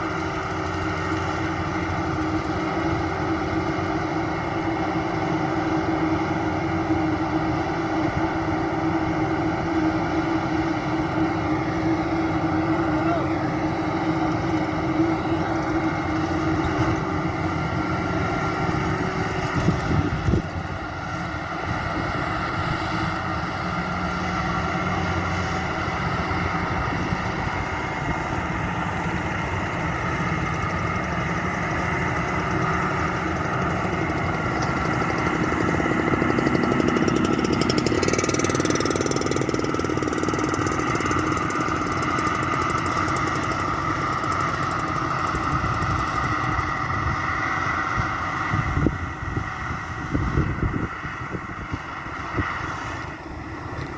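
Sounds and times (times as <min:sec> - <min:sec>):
combine harvester engine droning: 0:00.0 - 0:53.9.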